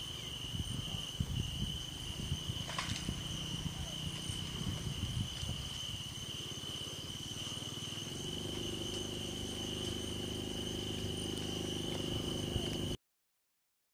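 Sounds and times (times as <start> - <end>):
low humming drone: 0.0 - 13.0
night insects trilling: 0.0 - 13.0.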